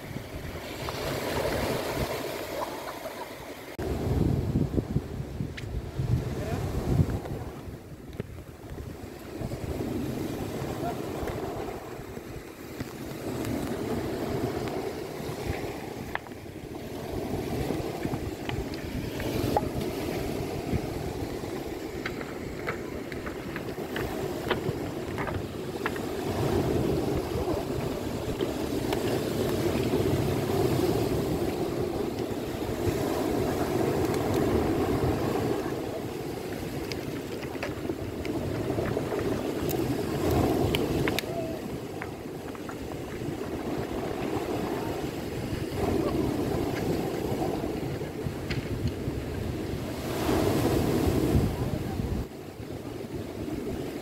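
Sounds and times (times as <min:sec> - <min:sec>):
waves washing over cobblestones: 0:00.0 - 0:54.0.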